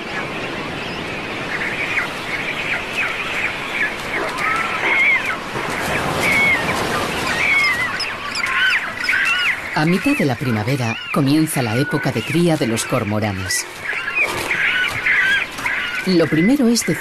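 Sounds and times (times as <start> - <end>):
cormorants calling: 0.0 - 17.0.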